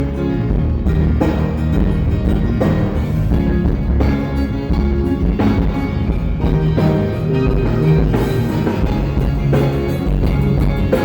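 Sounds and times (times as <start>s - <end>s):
live band playing loud music: 0.0s - 11.0s.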